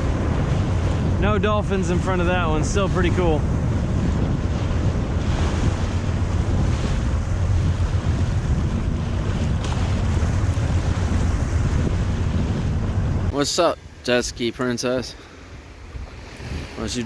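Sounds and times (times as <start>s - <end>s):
jet ski engine drone: 0.0s - 13.7s
wind rushing over microphone: 0.0s - 14.5s, 15.4s - 17.0s
water noise: 0.0s - 17.0s.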